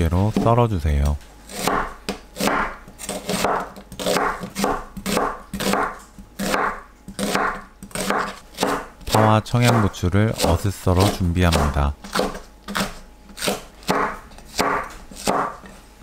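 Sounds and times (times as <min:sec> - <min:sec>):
knife crunching through onion: 0:01.4 - 0:15.7.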